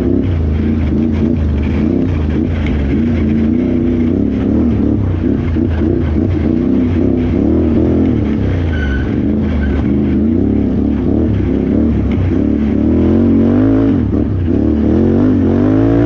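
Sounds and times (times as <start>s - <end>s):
atv engine revving: 0.0s - 16.0s.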